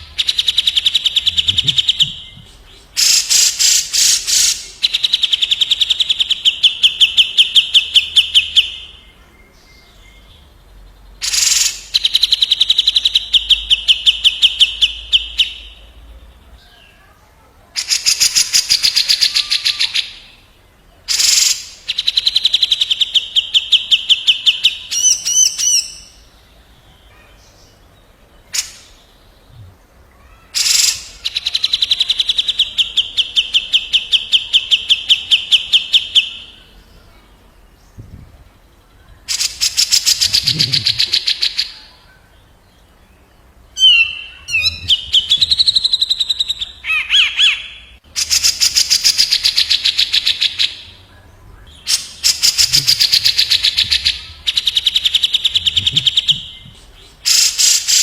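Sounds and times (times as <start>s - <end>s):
bulbuls calling with rattling trills: 0.0s - 17.0s, 21.1s - 58.0s.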